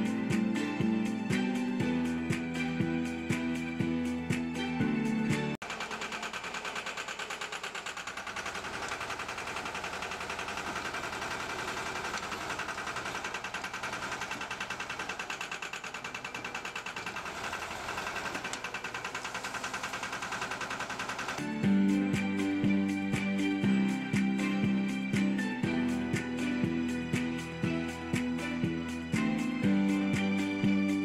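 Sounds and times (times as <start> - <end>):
loader engine pulsing: 0.0 - 31.0.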